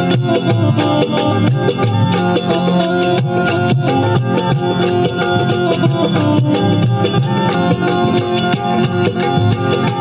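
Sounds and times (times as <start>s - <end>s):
hand drum beat: 0.0s - 10.0s
harmonium melody: 0.0s - 10.0s
small hand cymbals: 0.0s - 10.0s.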